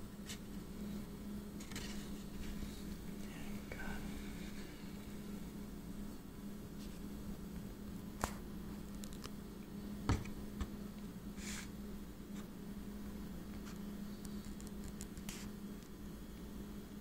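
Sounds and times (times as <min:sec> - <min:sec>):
low hum: 0:00.0 - 0:14.6.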